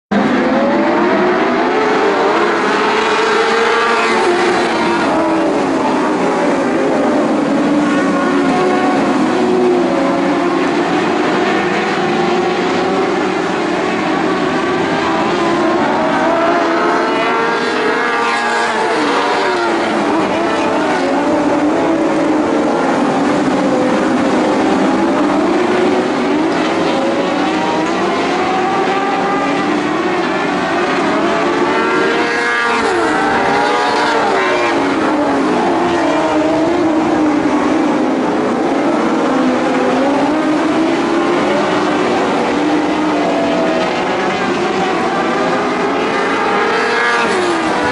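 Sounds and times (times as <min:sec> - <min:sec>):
race car engines passing: 0:00.1 - 0:47.9.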